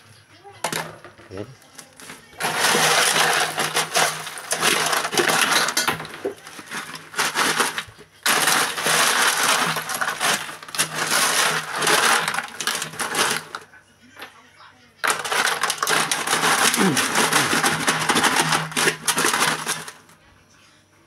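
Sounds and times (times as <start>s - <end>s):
ice cubes clattering: 0.6s - 13.7s, 15.0s - 20.1s.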